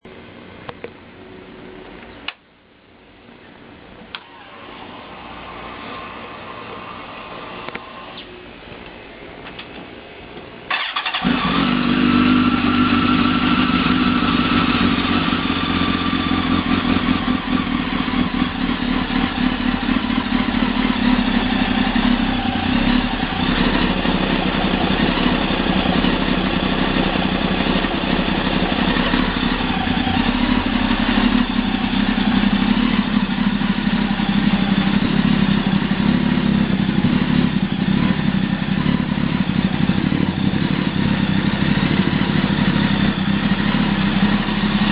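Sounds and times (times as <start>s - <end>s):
motorcycle engine starting and idling: 4.1s - 8.4s, 10.7s - 44.9s.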